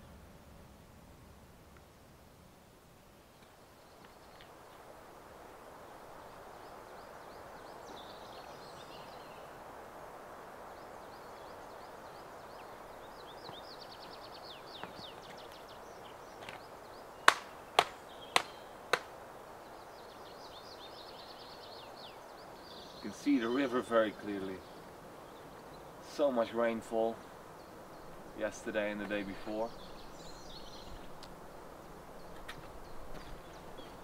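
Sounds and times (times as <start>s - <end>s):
small birds chirping: 3.2s - 34.0s.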